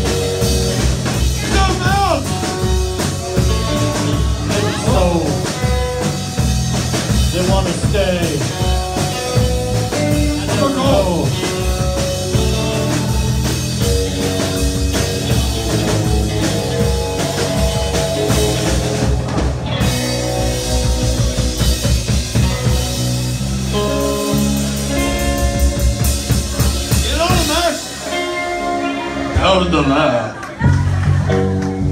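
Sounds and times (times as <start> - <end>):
drum kit: 0.0 - 31.9
electric guitars: 0.0 - 31.9.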